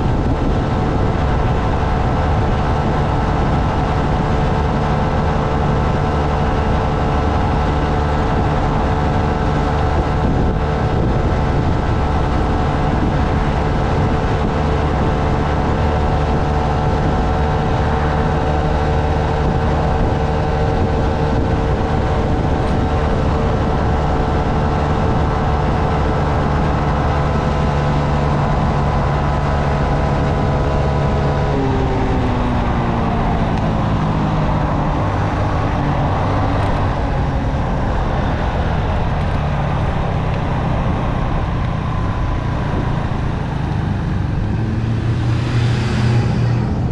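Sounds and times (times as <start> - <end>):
road and wind noise: 0.0 - 46.9.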